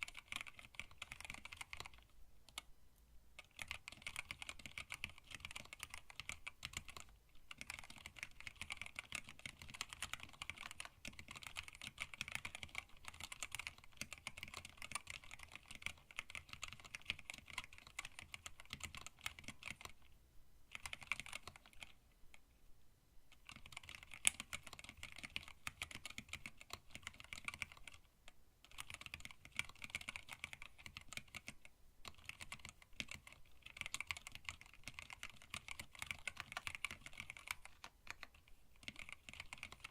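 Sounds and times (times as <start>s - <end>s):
mechanical keyboard typing: 0.0s - 2.7s, 3.4s - 20.1s, 20.7s - 22.0s, 23.3s - 39.9s.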